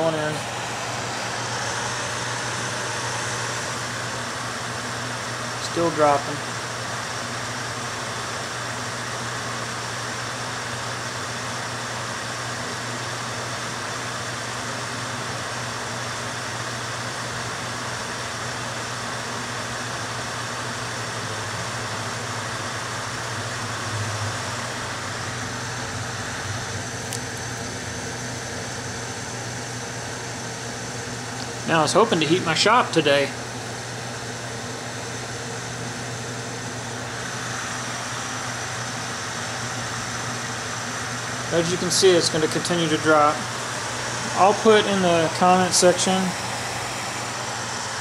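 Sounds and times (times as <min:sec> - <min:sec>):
blower fan rushing air: 0:00.0 - 0:48.0.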